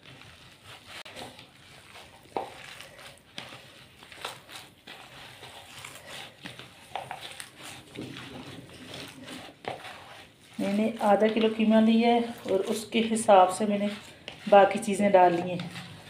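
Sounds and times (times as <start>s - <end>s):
hand squelching minced meat: 0.0s - 16.0s.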